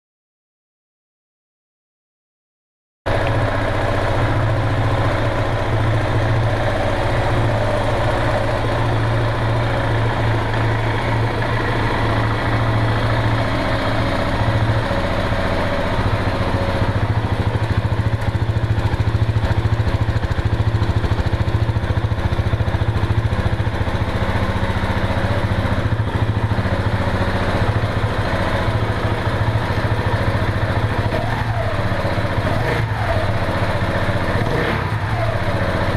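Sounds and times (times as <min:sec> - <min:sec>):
motorcycle engine idling: 0:03.1 - 0:35.9.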